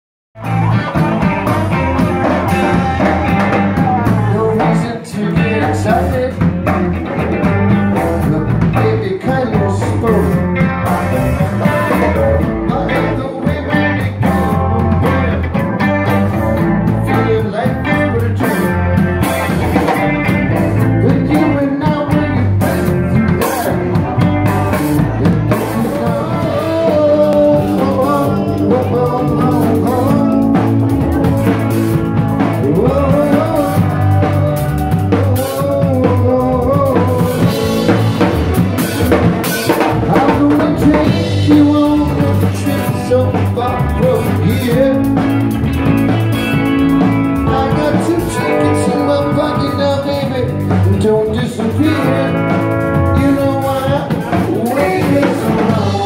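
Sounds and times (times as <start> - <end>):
drum kit driving beat: 0.4 - 56.0
electric bass: 0.4 - 56.0
electric guitars: 0.4 - 56.0.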